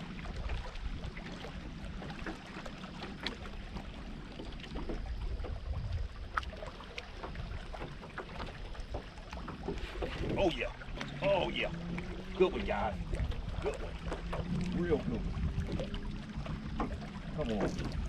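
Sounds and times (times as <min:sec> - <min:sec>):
low rumble of wind and water: 0:00.0 - 0:18.0.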